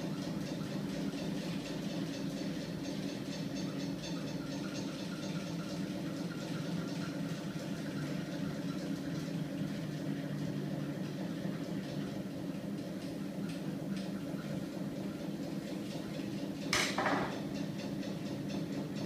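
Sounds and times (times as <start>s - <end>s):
machine low mechanical hum: 0.0s - 19.0s.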